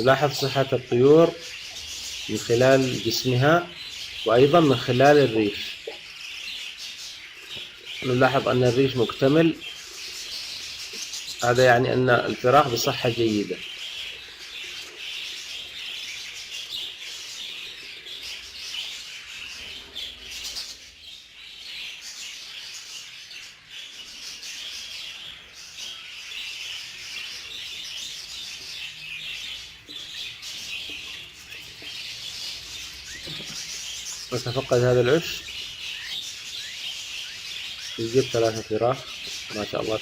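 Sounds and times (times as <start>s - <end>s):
budgerigars chirping: 0.0s - 40.0s.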